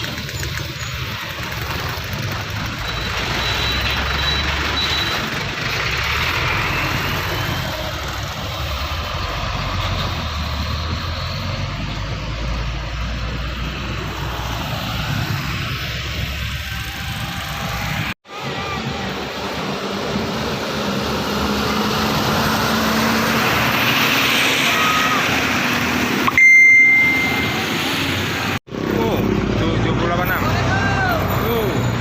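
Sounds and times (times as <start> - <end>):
diesel vehicles passing: 0.0 - 32.0.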